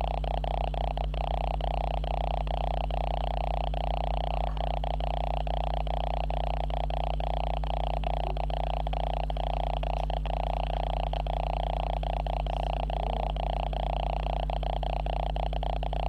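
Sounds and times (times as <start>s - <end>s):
buzzing drone: 0.0s - 16.0s
low electronic hum: 0.0s - 16.0s.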